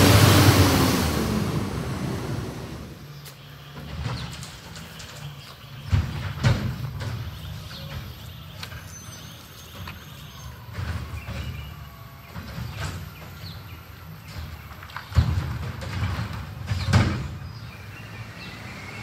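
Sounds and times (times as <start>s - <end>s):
truck engine pulling away: 0.0s - 19.0s.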